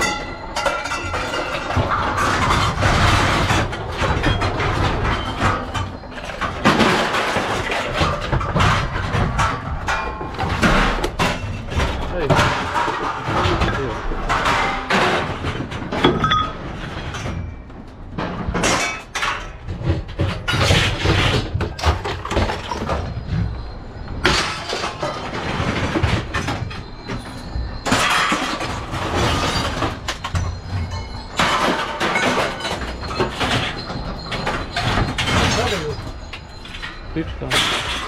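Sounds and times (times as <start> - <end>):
scrap metal crashing and clanging: 0.0 - 38.0.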